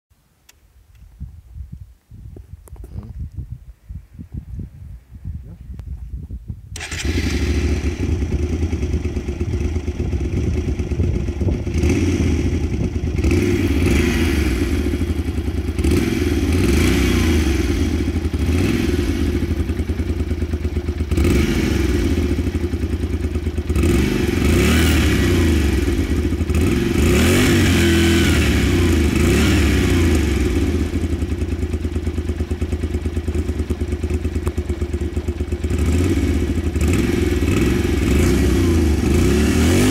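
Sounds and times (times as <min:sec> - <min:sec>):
motorcycle engine revving and idling: 0:05.6 - 0:39.9.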